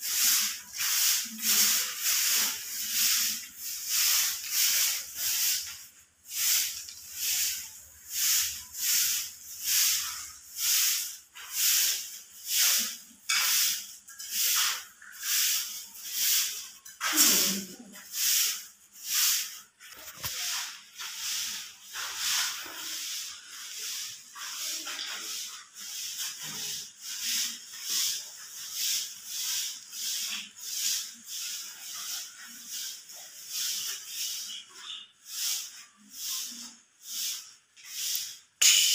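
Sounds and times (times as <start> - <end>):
broom sweeping concrete floor: 0.0 - 38.9.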